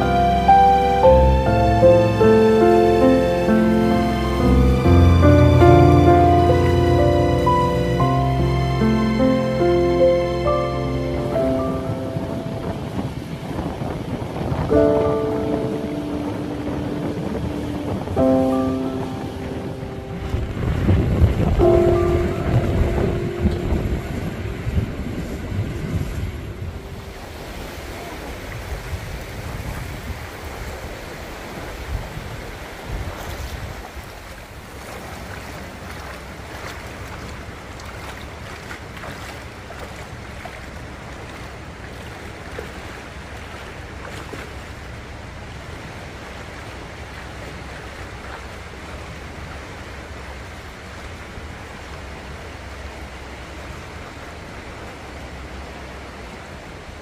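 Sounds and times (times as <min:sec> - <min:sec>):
seawater washing over rock: 0:00.0 - 0:56.0
wind buffeting microphone: 0:00.0 - 0:57.0.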